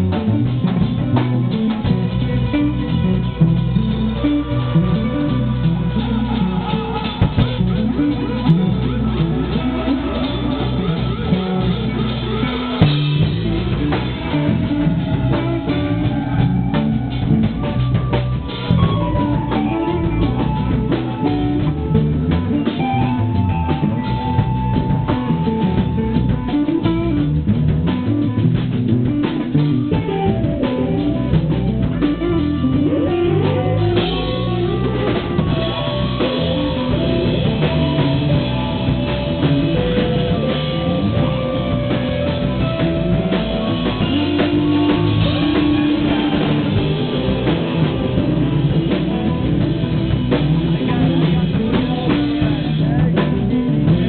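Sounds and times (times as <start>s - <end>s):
drum kit playing: 0.0s - 54.0s
guitar playing: 0.0s - 54.0s.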